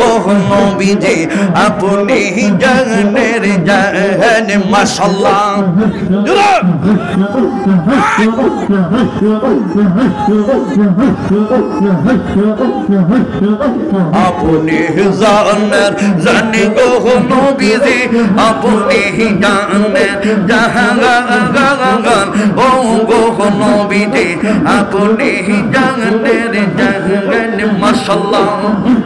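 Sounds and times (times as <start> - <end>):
man singing devotional chant: 0.0 - 29.0.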